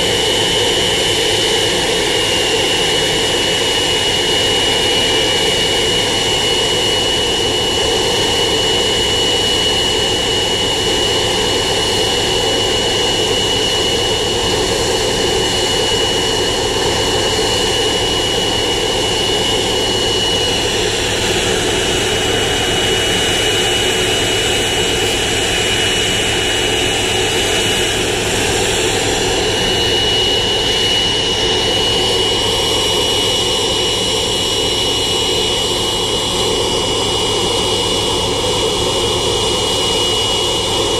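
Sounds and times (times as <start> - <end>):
high jet engine whine: 0.0 - 40.9
jet engines rumbling: 0.0 - 40.9.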